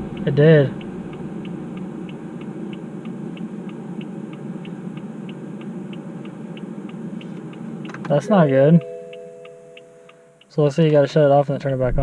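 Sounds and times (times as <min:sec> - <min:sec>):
turn signal ticking: 0:00.0 - 0:11.3
steady low hum: 0:00.0 - 0:12.0.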